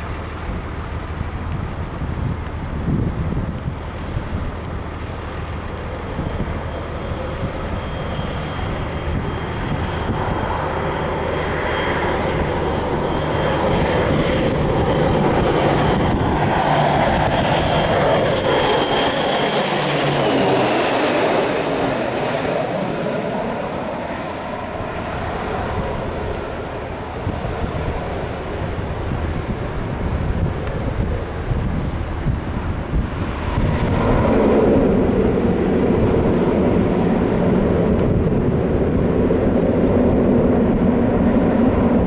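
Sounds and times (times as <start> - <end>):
high turbine whine: 0.0 - 42.0
low propeller drone: 0.0 - 42.0
turboprop plane passing: 0.0 - 42.0.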